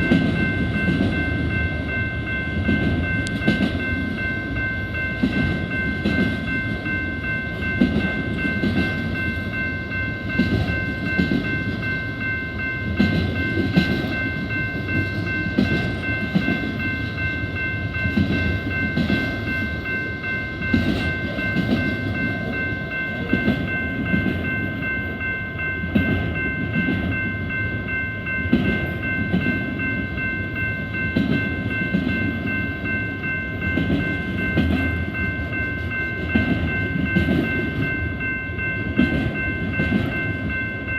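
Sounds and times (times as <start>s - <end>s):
train cars clattering on rails: 0.0s - 40.9s.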